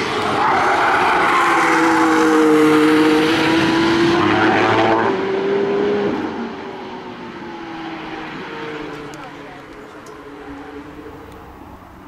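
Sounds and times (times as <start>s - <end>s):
race car engine passing at speed: 0.0s - 11.3s.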